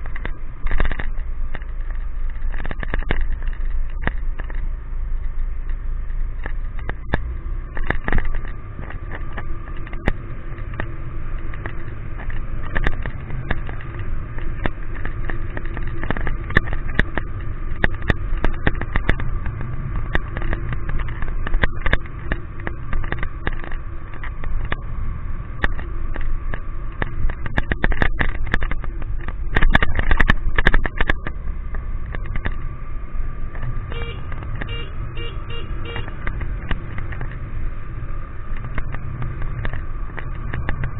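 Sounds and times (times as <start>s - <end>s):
raindrops clicking on camera: 0.0s - 40.9s
wind and road noise: 0.0s - 40.9s.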